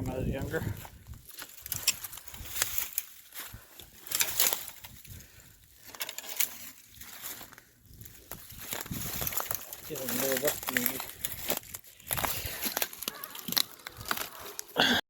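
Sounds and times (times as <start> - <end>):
footsteps through dry leaves: 0.3 - 14.9.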